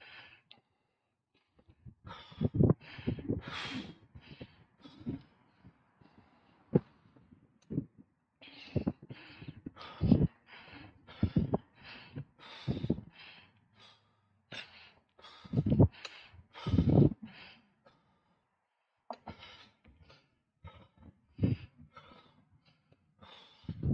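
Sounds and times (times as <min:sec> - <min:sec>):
heavy breathing huffing and puffing: 0:01.5 - 0:18.4, 0:19.1 - 0:23.9.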